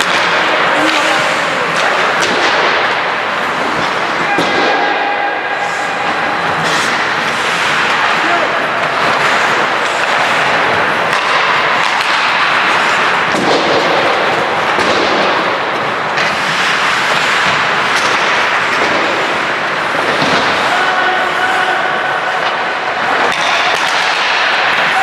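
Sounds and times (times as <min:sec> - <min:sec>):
hockey sticks and puck clacking: 0:00.0 - 0:25.0
skates scraping on ice: 0:00.0 - 0:25.0.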